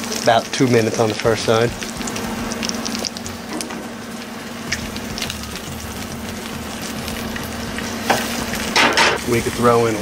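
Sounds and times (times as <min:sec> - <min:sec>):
oil spattering crackles: 0:00.0 - 0:10.0
steak sizzling in a skillet: 0:00.0 - 0:10.0.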